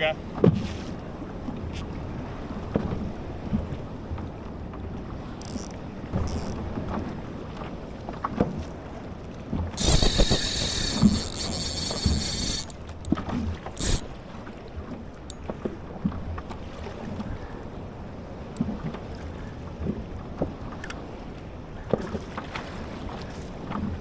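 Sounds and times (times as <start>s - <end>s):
water around kayak: 0.0s - 24.0s.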